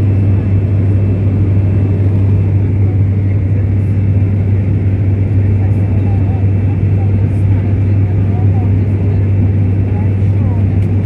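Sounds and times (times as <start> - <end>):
turboprop engine drone in cabin: 0.0 - 11.0.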